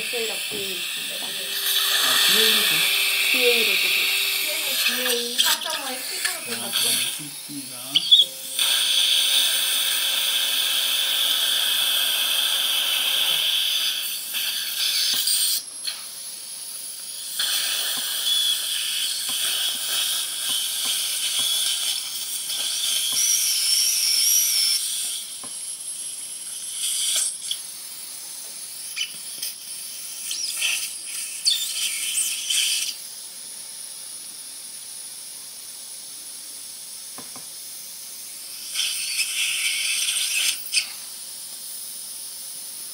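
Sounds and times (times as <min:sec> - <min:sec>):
dental suction hissing: 0:00.0 - 0:42.9.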